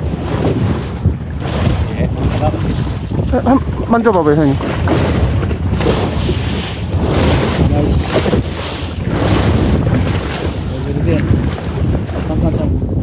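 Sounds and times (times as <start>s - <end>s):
boat engine drone: 0.0s - 13.0s
sea washing against hull: 0.0s - 13.0s
wind buffeting microphone: 0.0s - 13.0s.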